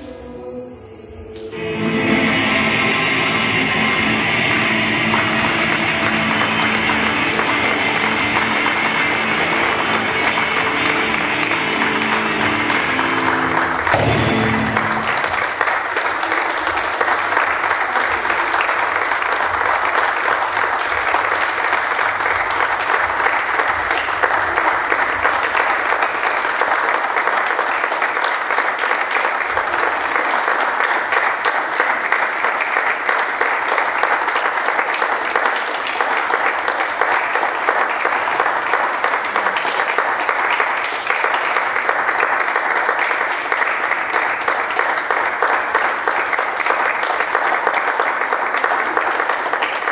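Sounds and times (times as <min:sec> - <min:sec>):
audience applauding: 0:01.2 - 0:49.9.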